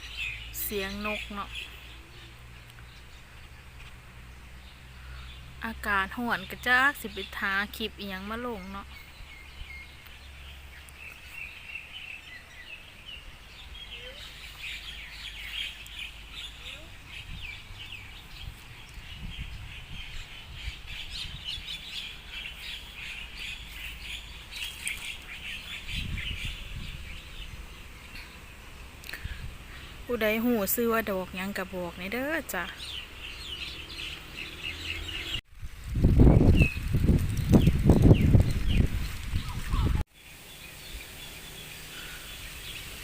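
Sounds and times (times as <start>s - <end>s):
birds chirping and twittering: 0.0s - 43.0s.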